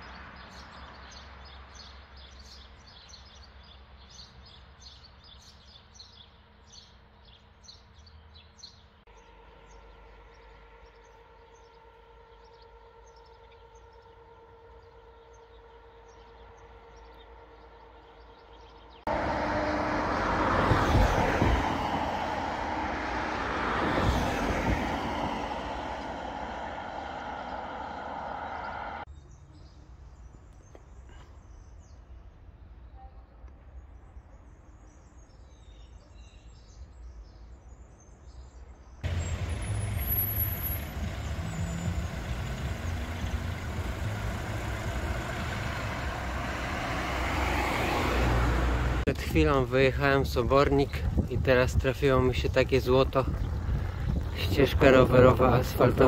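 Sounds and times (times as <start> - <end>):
birds chirping: 0.0 - 19.8, 20.5 - 33.0, 33.7 - 56.0.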